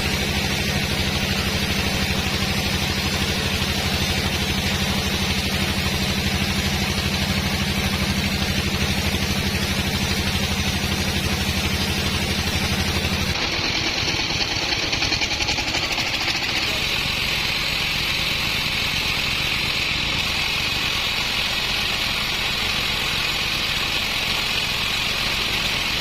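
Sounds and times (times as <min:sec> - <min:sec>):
hiss: 0:00.0 - 0:26.0
sawmill engine pulsing hum: 0:00.0 - 0:26.0.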